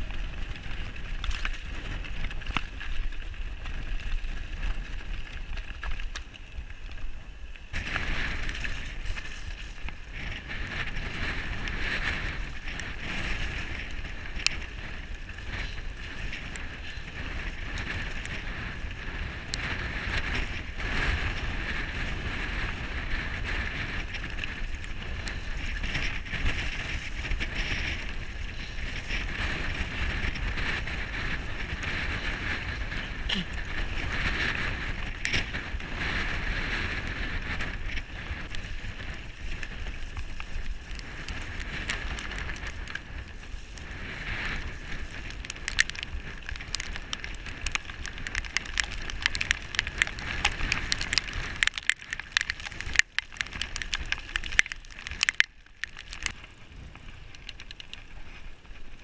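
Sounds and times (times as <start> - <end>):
bike rattling and knocking: 0.0 - 59.0
bike tyres on loose stones: 0.0 - 59.0
wind rumbling on microphone: 0.0 - 59.0.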